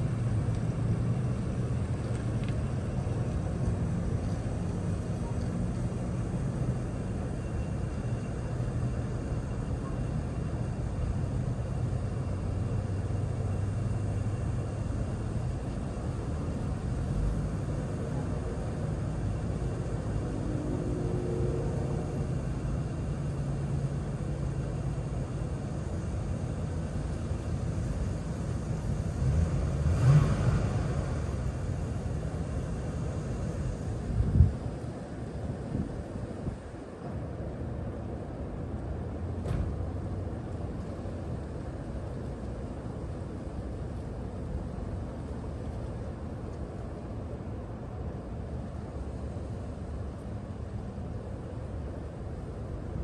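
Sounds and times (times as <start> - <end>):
van engine idling: 0.0 - 53.0.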